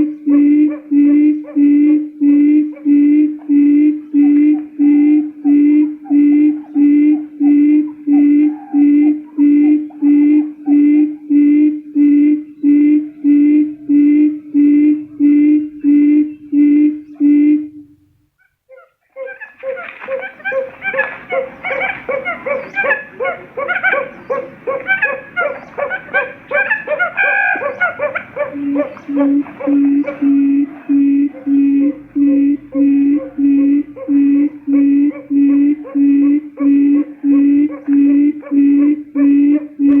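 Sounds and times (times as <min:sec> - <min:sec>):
low hooting quail call: 0:00.0 - 0:40.0.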